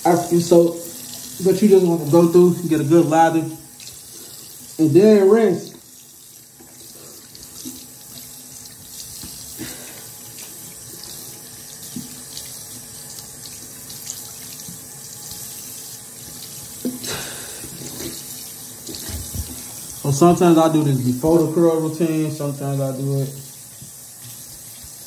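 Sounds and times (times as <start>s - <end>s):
faucet running into sink: 0.0s - 25.0s.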